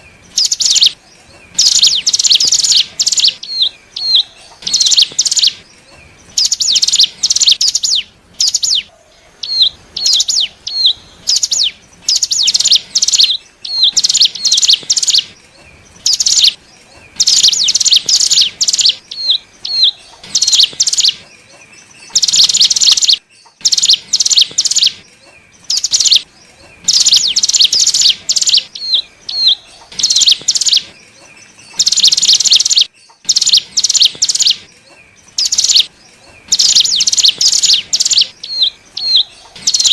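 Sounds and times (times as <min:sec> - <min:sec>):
bird singing trills: 0:00.0 - 0:39.9.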